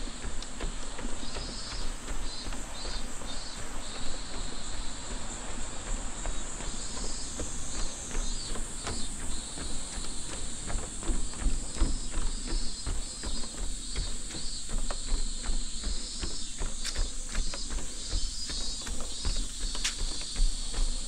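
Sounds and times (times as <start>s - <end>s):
cicadas calling: 0.0s - 21.0s
footsteps on a trail: 0.0s - 21.0s.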